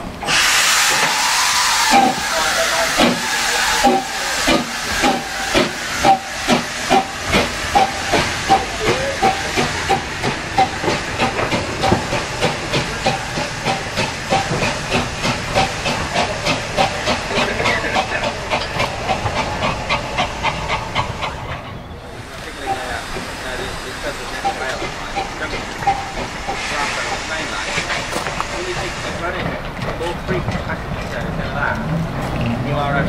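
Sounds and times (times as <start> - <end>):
steam hissing: 0.0 - 30.2
steam locomotive chuffing: 0.0 - 33.0.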